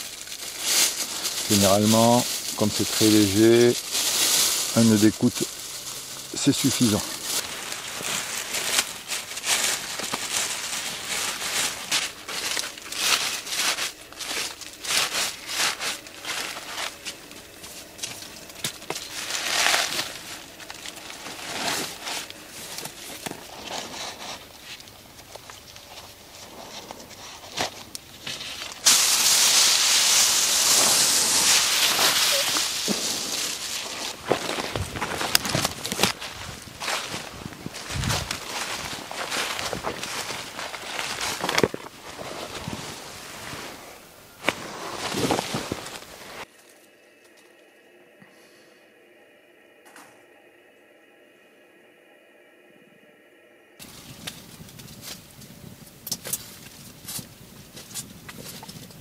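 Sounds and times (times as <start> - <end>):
dry leaves rustling in a sack: 0.0 - 46.8, 53.8 - 59.0
foil blanket crinkling: 0.0 - 46.8, 53.8 - 59.0.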